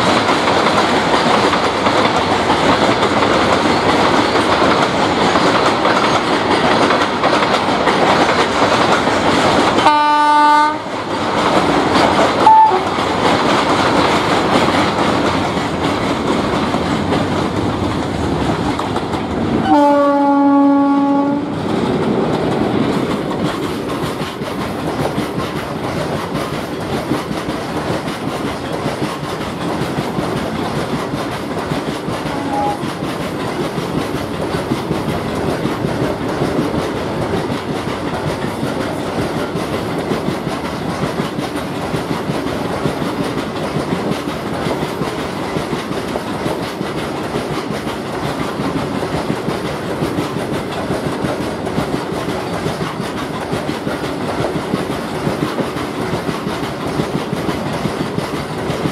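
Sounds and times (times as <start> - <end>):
wheels clattering over rails: 0.0 - 9.9, 11.0 - 19.8, 21.5 - 58.9.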